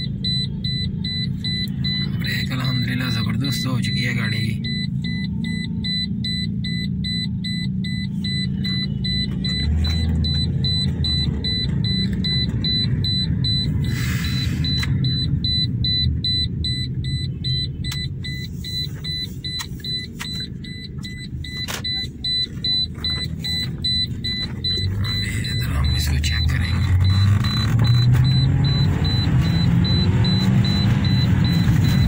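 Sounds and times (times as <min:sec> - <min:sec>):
car engine and road rumble: 0:00.0 - 0:32.0
rapid electronic warning beep: 0:00.0 - 0:32.0.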